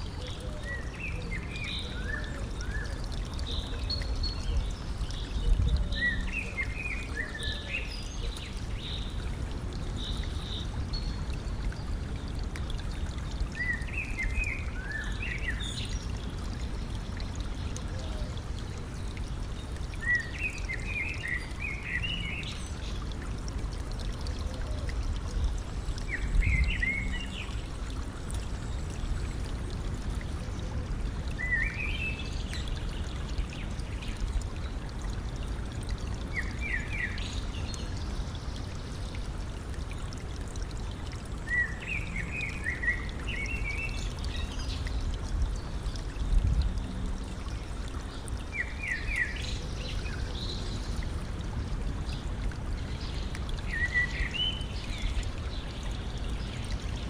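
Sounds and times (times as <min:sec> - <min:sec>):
songbird singing: 0:00.0 - 0:23.2, 0:24.0 - 0:34.9, 0:35.8 - 0:40.1, 0:41.4 - 0:51.2, 0:52.0 - 0:57.0
stream flowing and trickling: 0:00.0 - 0:57.0.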